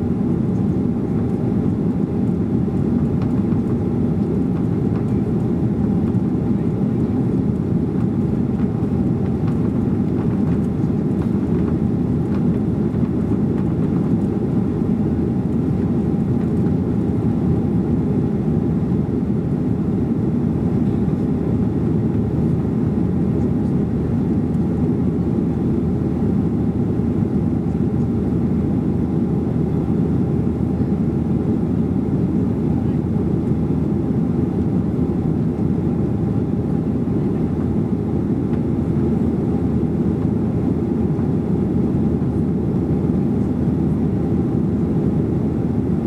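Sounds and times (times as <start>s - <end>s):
airplane cabin engine roar: 0.0s - 46.0s.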